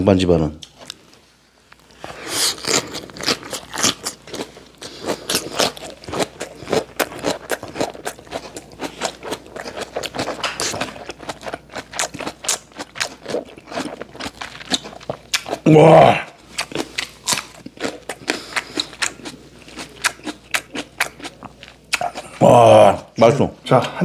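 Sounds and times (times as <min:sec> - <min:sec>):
chewing food: 0:02.1 - 0:15.7, 0:16.3 - 0:22.4.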